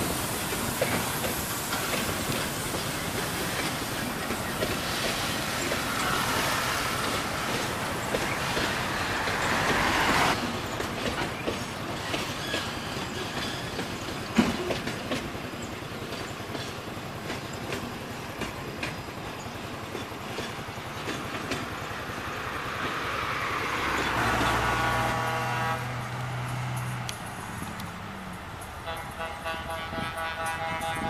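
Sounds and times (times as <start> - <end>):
train wagons rattling over rail joints: 0.0 - 31.0.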